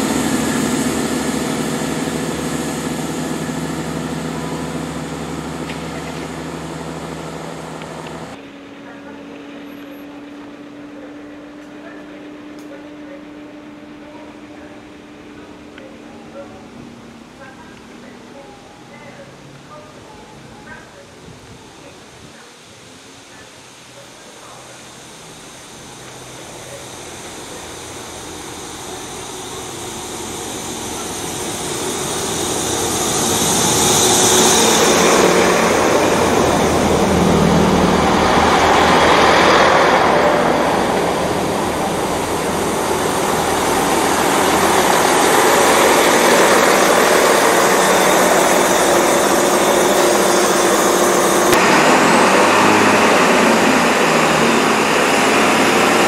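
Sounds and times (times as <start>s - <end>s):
diesel train engine drone: 0.0s - 56.0s.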